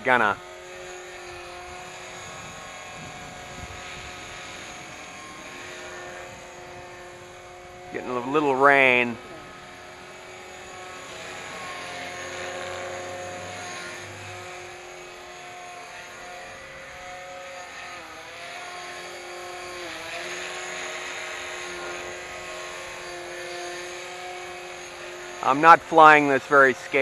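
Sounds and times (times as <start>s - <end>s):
rc helicopter motor whine: 0.0s - 27.0s.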